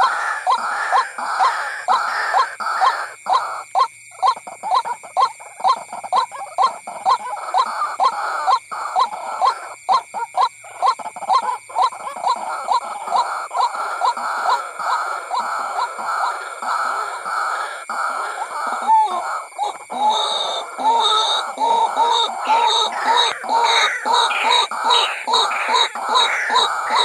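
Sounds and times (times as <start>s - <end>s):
waterhen calling: 0.0s - 3.6s, 5.6s - 27.0s.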